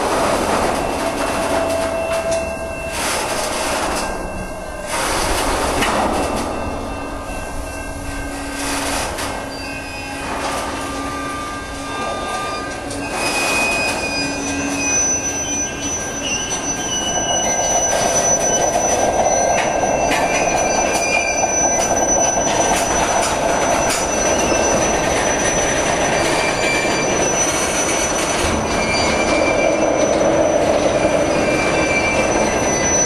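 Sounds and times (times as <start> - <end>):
metallic wheel squeals: 0.0 - 33.0
train wheels clattering over rail joints: 0.0 - 33.0.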